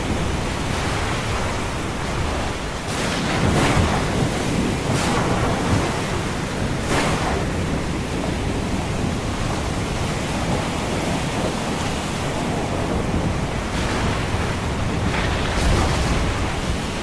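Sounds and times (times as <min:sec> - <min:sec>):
breaking water surges: 0:00.0 - 0:17.0
ocean surf washing: 0:00.0 - 0:17.0.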